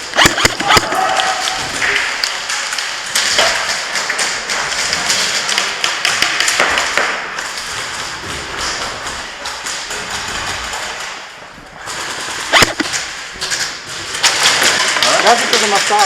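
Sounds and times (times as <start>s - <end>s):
airsoft guns firing: 0.0s - 11.2s, 11.8s - 16.0s
pellets striking: 0.0s - 16.0s.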